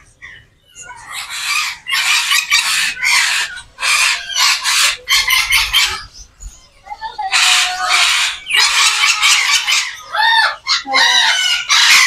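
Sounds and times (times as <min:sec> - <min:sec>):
birds screeching harshly: 0:00.0 - 0:12.0.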